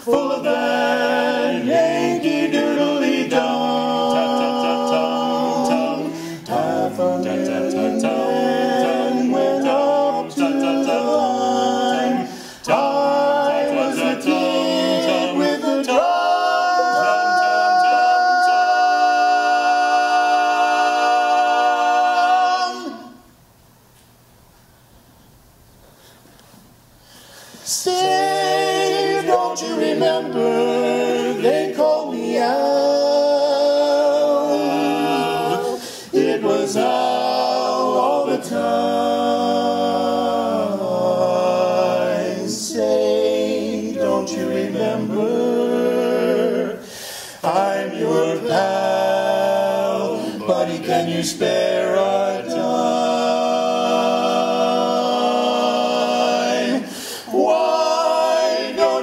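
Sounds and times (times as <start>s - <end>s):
a cappella group singing in harmony: 0.0s - 23.4s, 27.1s - 59.0s.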